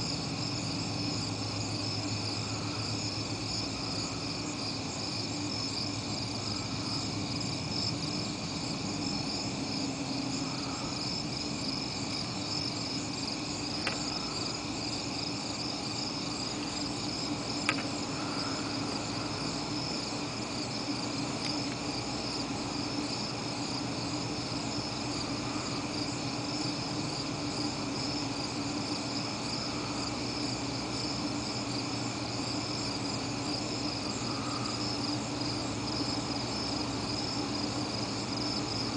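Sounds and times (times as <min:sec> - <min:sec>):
crickets and insects trilling: 0:00.0 - 0:38.9
low steady hum: 0:00.0 - 0:38.9.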